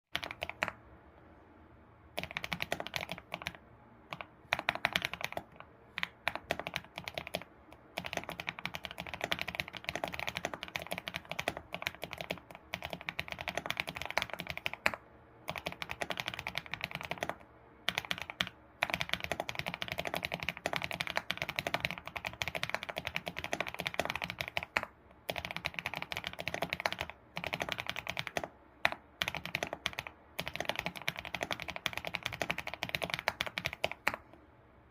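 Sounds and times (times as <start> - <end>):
fast typing on computer keyboard: 0.1 - 0.8, 2.1 - 34.3.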